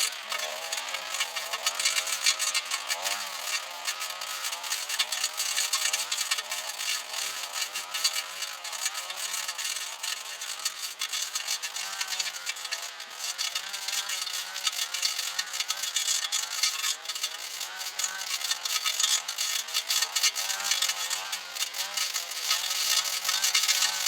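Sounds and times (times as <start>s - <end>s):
small two-stroke engine revving: 0.0s - 24.0s.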